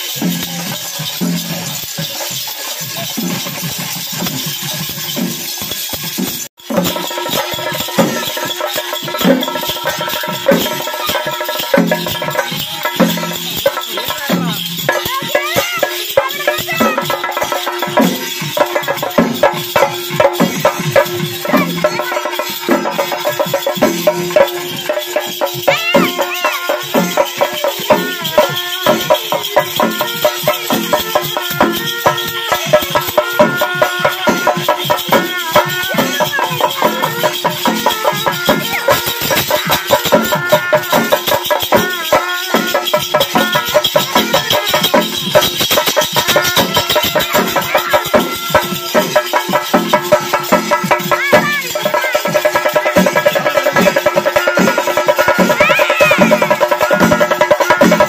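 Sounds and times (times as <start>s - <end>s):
fast steady drumming: 0.0s - 58.0s
jangling metal percussion: 0.0s - 58.0s.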